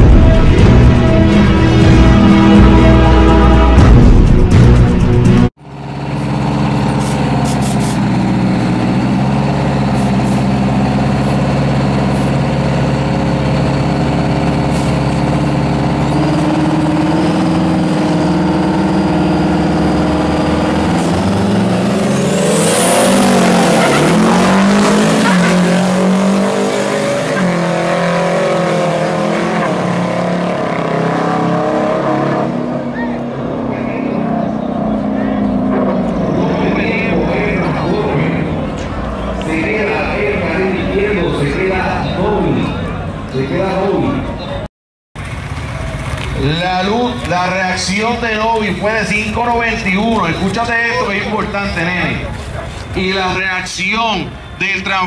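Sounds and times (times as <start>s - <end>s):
diesel truck engines revving: 0.0s - 55.0s.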